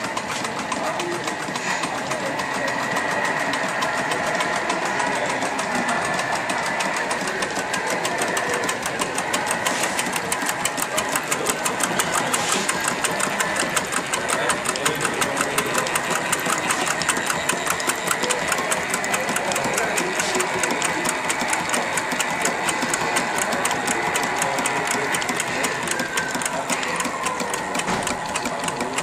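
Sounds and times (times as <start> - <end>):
model steam engines clattering: 0.0 - 29.0.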